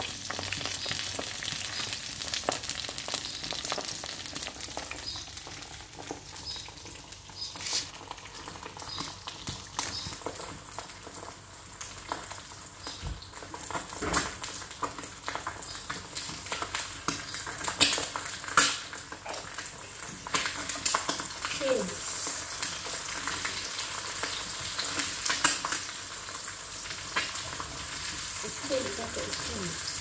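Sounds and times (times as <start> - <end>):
eggs sizzling in a pan: 0.0 - 30.0.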